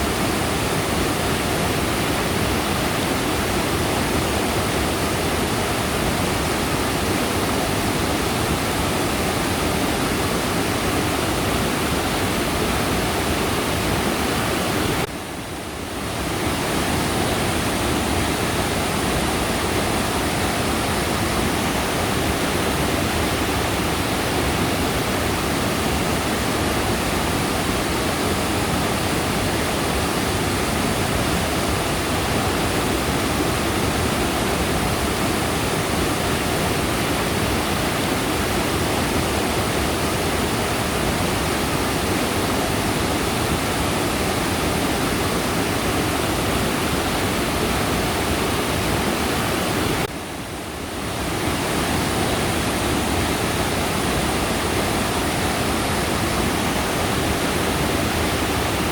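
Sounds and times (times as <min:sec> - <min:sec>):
stream rushing over rocks: 0:00.0 - 0:58.9.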